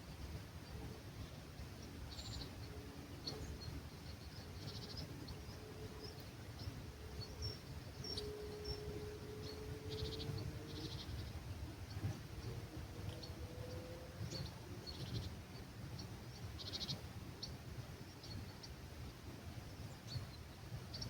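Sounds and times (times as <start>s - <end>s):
faint steady hum: 0.0s - 21.0s
wind rumble on microphone: 0.0s - 21.0s
birds chirping and trilling: 0.6s - 18.8s.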